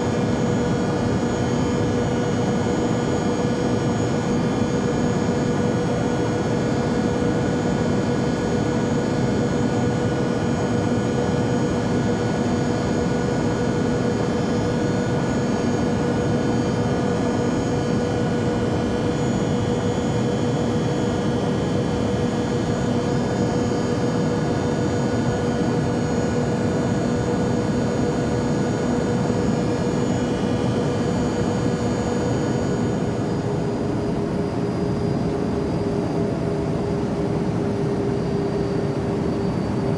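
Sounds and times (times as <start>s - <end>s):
airplane drone: 0.0s - 39.9s.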